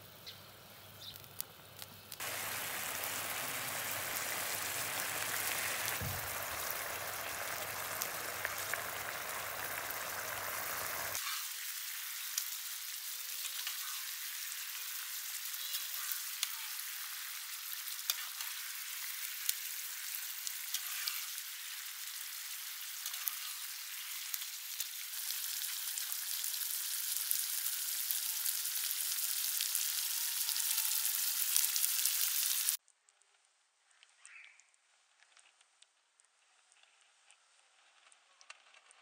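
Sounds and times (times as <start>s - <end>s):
food sizzling in a frying pan: 0.0s - 32.8s.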